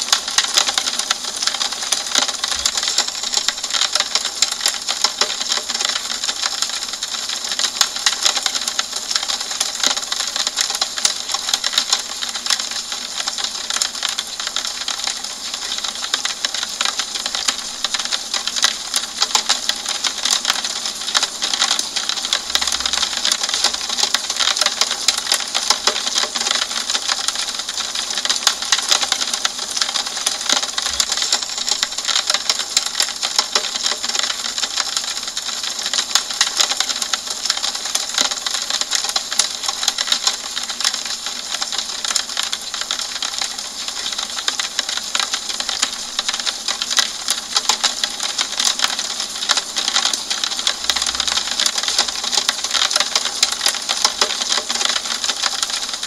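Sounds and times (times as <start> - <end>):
rain on a window: 0.0 - 56.0.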